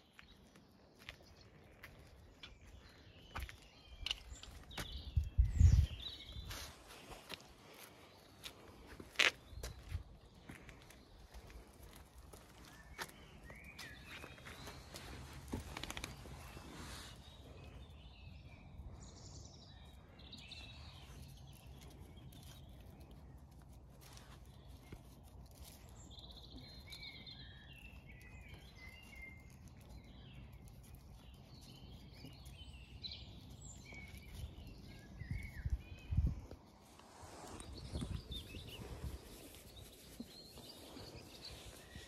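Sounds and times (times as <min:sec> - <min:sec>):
faint birds chirping: 0:00.0 - 0:42.0.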